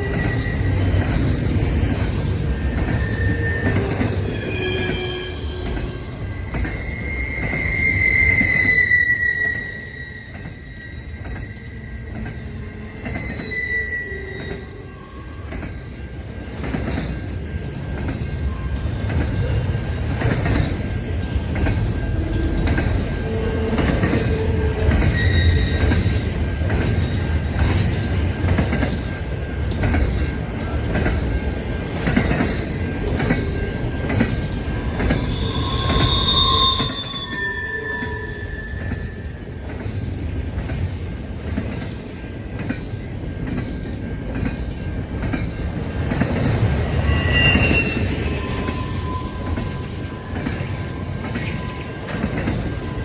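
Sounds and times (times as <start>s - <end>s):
wheel squeals: 0.0s - 15.7s, 18.2s - 28.2s, 29.9s - 40.0s, 44.8s - 53.0s
train rumbling past: 0.0s - 53.0s.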